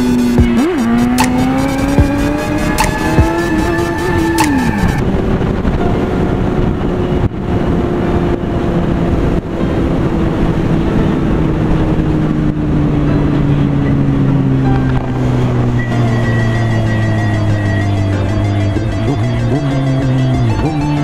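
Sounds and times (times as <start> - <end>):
wind rushing on microphone: 0.0 - 18.7
motorcycle engine running: 0.0 - 21.0.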